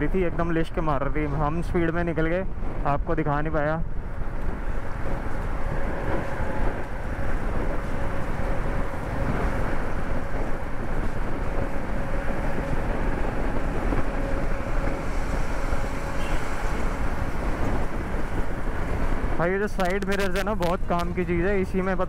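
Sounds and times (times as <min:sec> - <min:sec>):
motorcycle engine and road noise: 0:00.0 - 0:22.0
wind rush over microphone: 0:00.0 - 0:22.0.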